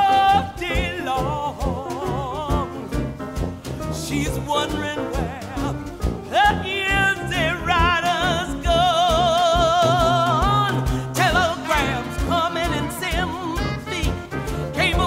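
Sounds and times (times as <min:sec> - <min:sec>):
person singing with vibrato: 0:00.0 - 0:03.1, 0:03.9 - 0:15.0
accompaniment with a beat: 0:00.0 - 0:15.0.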